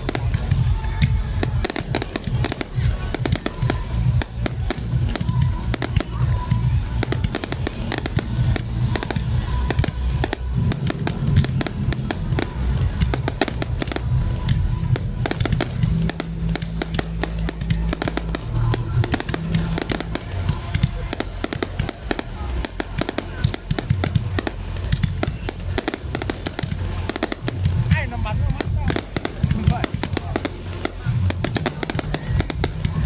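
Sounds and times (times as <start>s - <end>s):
fireworks cracking and banging: 0.0s - 33.0s
low rumble: 0.0s - 33.0s.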